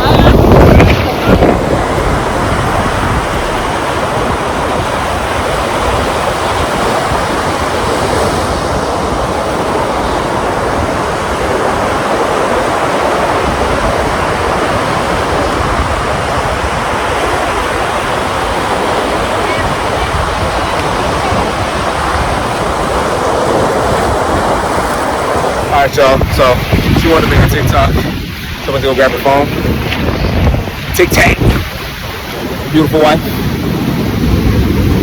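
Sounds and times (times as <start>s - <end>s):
ocean surf washing: 0.0s - 35.0s.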